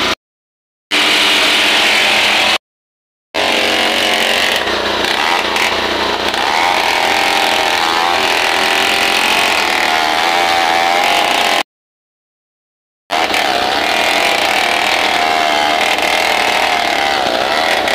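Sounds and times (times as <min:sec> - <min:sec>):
power tool motor running: 0:00.9 - 0:02.6, 0:03.4 - 0:11.6, 0:13.1 - 0:17.9.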